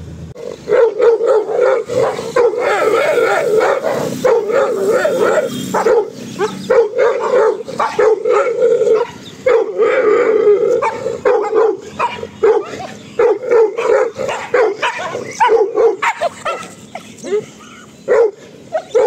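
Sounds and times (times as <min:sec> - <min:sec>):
dogs whining and yelping: 0:00.4 - 0:19.0.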